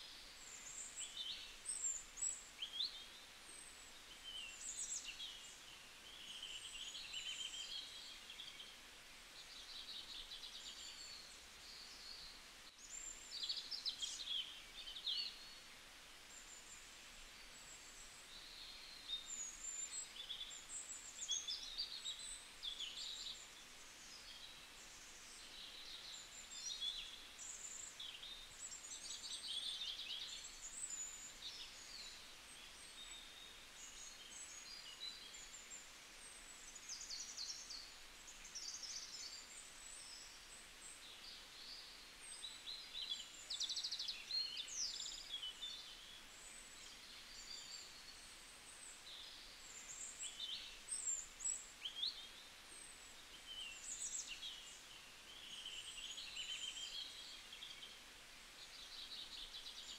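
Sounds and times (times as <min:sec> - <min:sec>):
soft steady hiss: 0:00.0 - 0:59.9.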